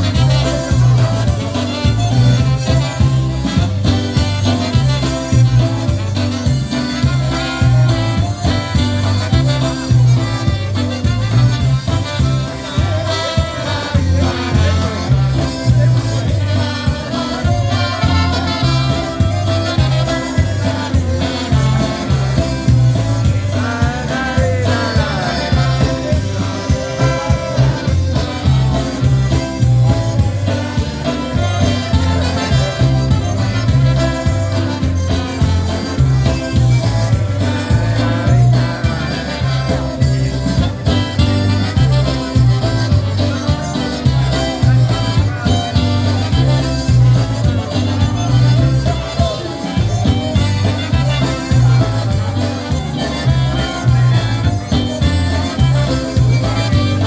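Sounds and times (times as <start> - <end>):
oom-pah bass beat: 0.0 - 57.0
people singing: 0.0 - 57.0
polka band playing: 0.0 - 57.0.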